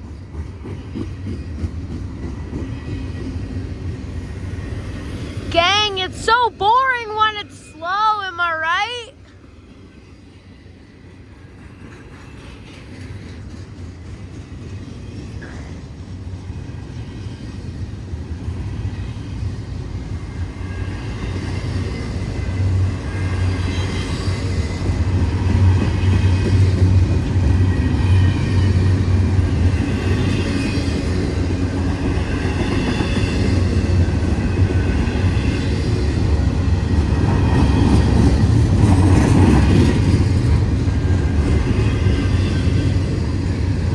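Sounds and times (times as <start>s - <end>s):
train rolling past: 0.0s - 43.9s.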